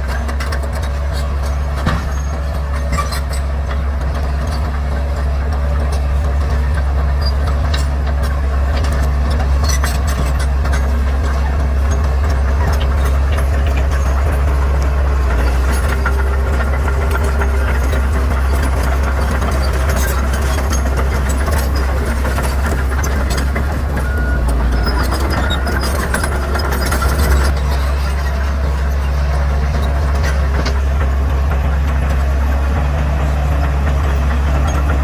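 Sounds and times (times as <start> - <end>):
diesel engine droning: 0.0 - 35.0.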